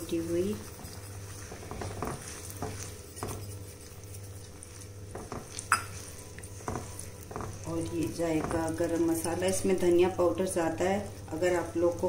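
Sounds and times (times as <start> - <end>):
spatula stirring in wok: 0.0 - 12.0.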